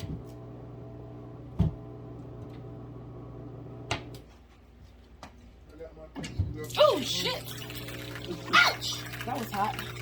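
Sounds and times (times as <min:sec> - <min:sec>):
dishwasher motor hum: 0:00.0 - 0:04.5, 0:06.2 - 0:10.0.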